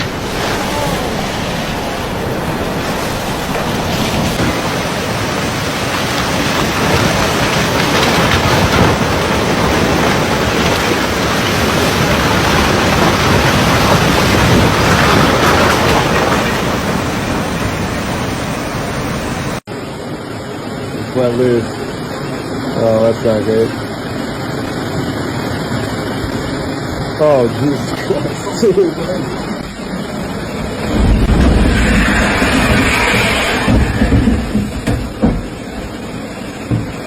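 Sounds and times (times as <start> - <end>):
floodwater rushing: 0.0 - 19.6, 23.8 - 37.0.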